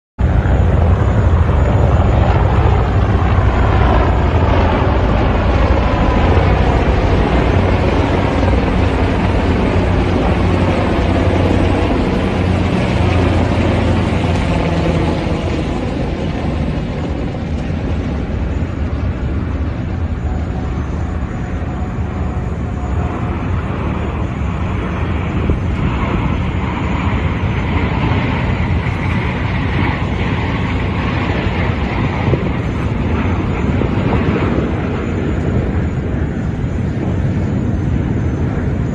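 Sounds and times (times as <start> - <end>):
helicopters and jets flying overhead: 0.2 - 38.9
jet engine whine falling in pitch: 0.2 - 38.9.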